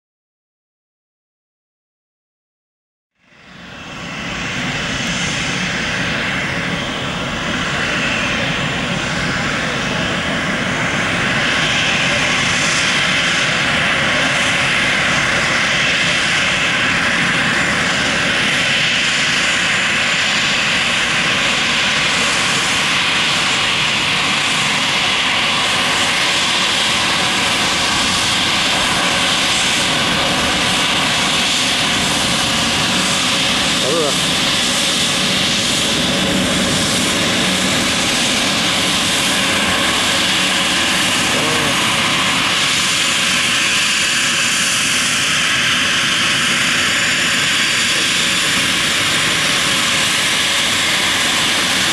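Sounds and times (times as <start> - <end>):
jet engines running: 3.2 - 51.9.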